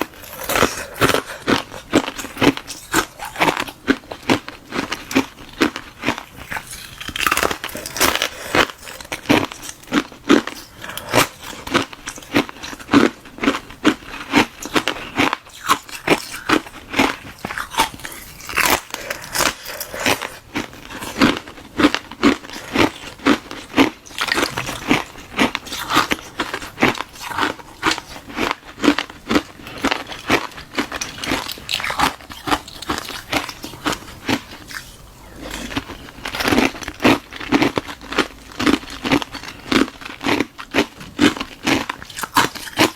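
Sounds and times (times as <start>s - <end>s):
person crunching ice: 0.0s - 42.9s.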